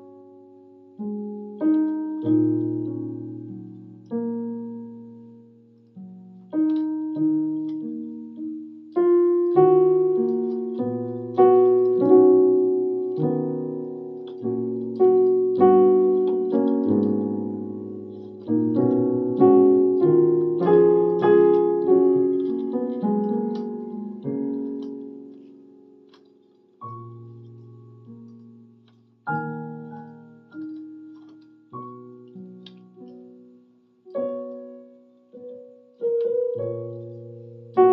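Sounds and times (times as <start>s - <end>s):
slow piano melody over chords: 0.0s - 37.9s.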